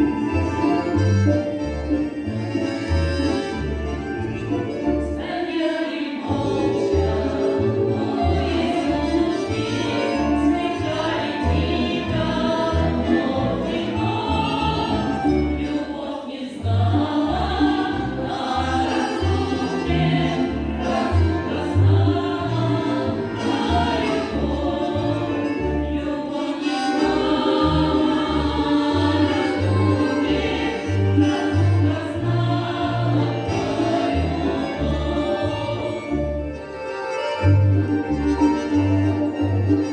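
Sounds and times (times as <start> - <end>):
accordion bass notes: 0.0 - 39.9
women's choir singing folk song: 4.4 - 36.8.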